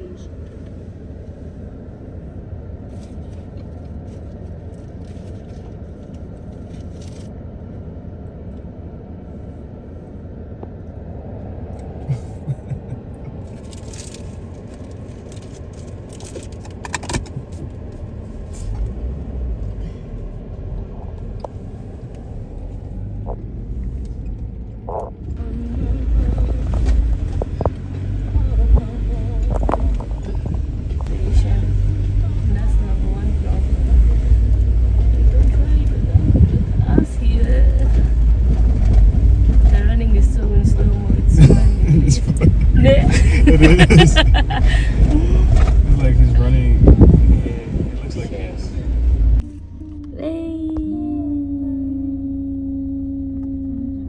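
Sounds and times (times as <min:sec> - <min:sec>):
car rumbling on the move: 0:00.0 - 0:54.0.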